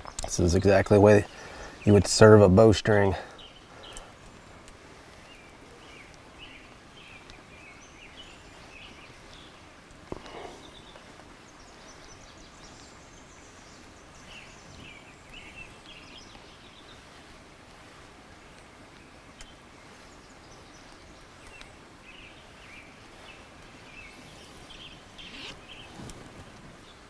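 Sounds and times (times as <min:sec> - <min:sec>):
bird chirping: 0:00.0 - 0:04.2, 0:05.2 - 0:17.2, 0:18.4 - 0:26.2.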